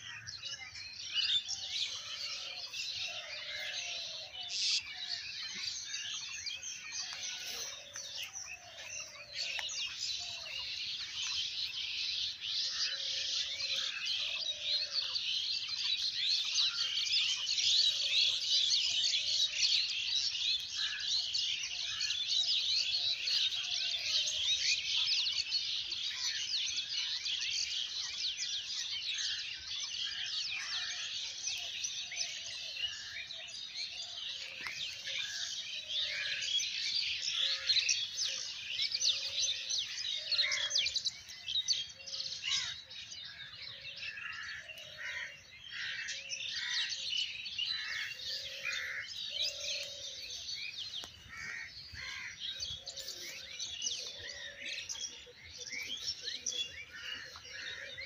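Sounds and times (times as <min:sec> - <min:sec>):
lower bird calls: 0:00.0 - 0:58.0
small birds chirping: 0:00.0 - 0:58.0.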